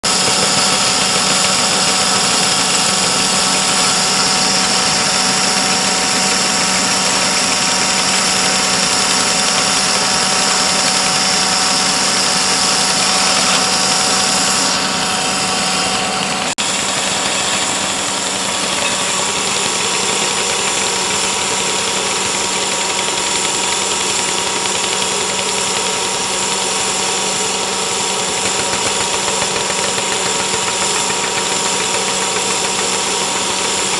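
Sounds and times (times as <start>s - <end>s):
engine running steadily: 0.0s - 33.9s.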